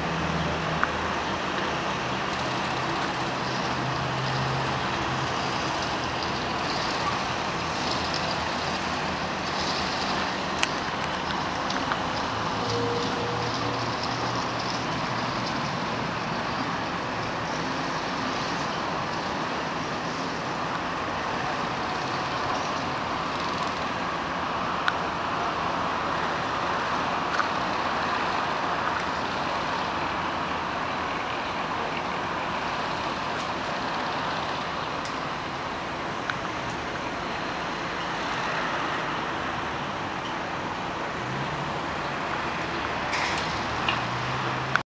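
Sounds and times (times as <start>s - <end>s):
road traffic: 0.0s - 44.9s.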